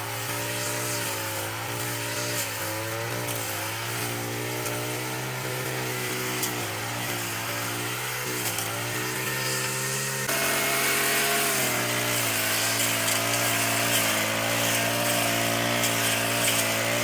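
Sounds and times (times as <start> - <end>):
grass cutter engine running: 0.0 - 17.0.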